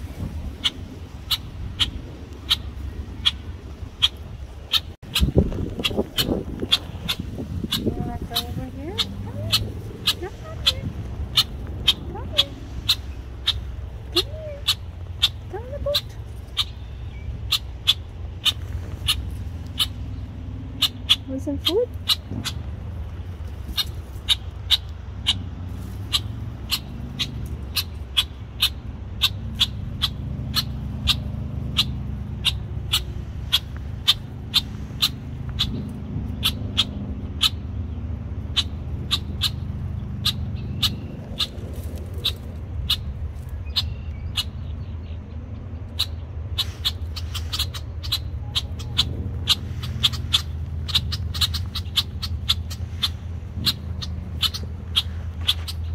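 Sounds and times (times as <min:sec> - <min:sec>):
low steady rumble: 0:00.0 - 0:55.9
blackbird alarm calls: 0:00.5 - 0:55.9.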